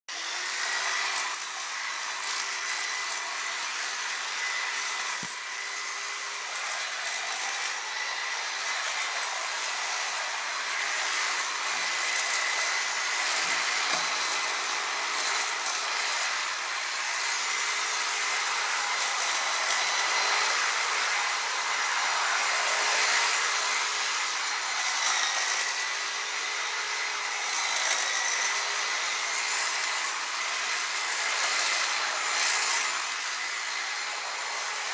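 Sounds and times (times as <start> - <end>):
electric hedge clippers buzzing: 0.1 - 34.9.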